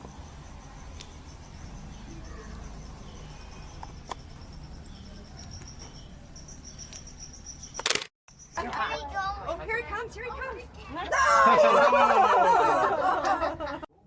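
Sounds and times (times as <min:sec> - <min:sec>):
crickets chirping: 0:00.0 - 0:13.4.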